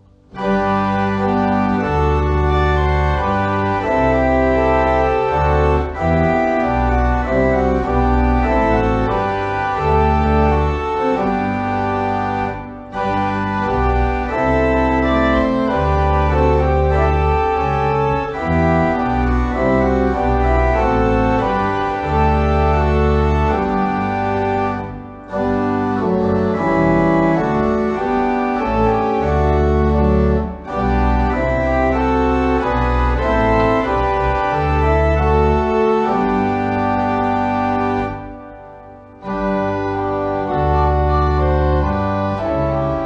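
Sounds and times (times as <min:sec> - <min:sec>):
pipe organ playing chords: 0:00.0 - 0:43.0.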